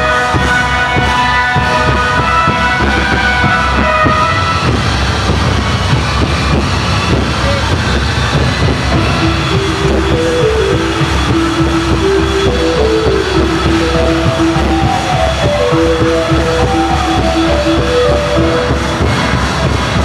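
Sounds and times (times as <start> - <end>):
loud dance music: 0.0 - 20.0.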